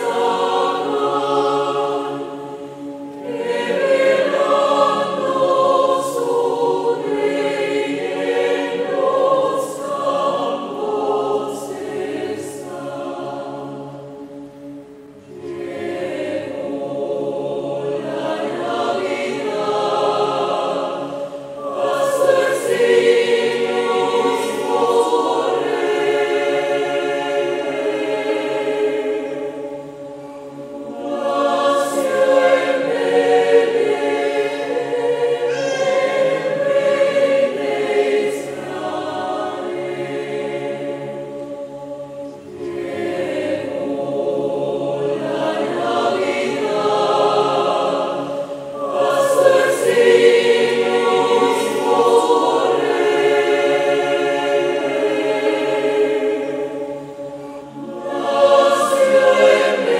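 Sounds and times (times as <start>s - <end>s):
choir singing a carol: 0.0s - 59.9s.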